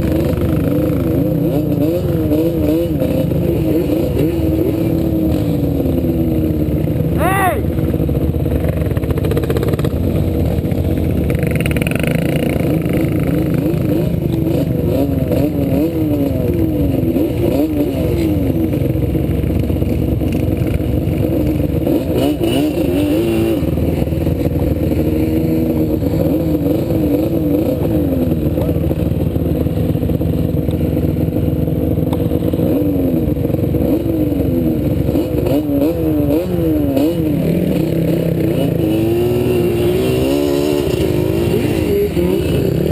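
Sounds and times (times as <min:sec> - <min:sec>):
constant low rumble: 0:00.0 - 0:39.9
atv engine revving: 0:00.0 - 0:42.9.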